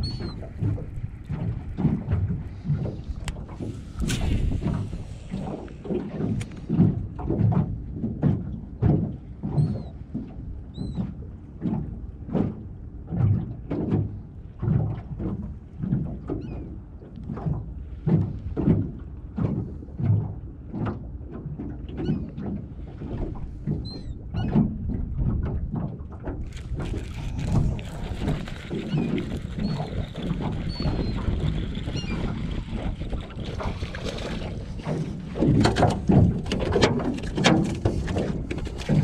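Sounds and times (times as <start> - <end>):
waves slapping boat hull: 0.0 - 39.0.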